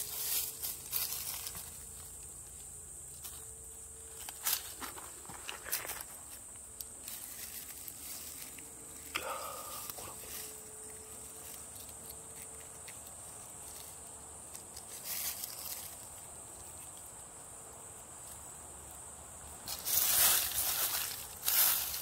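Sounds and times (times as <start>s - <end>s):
dry leaves rustling: 0.0s - 22.0s
insects chirring: 0.0s - 22.0s.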